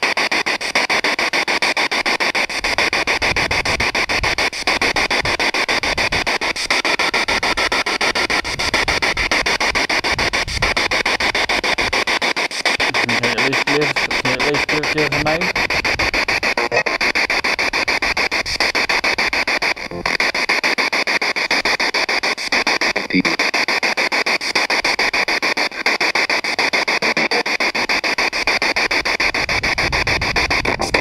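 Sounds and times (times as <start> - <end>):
chopped radio static: 0.0 - 31.0.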